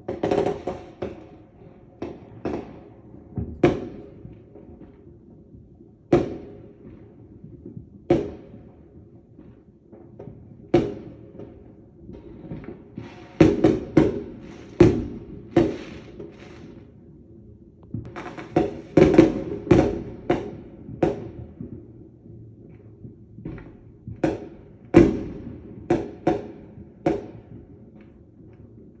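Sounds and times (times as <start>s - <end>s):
fireworks banging: 0.0s - 5.0s, 6.2s - 17.0s, 17.9s - 29.0s.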